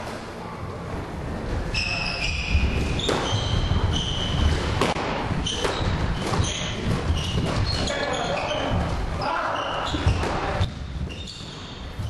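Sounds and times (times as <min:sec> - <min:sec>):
shoes squeaking on floor: 0:01.7 - 0:12.0.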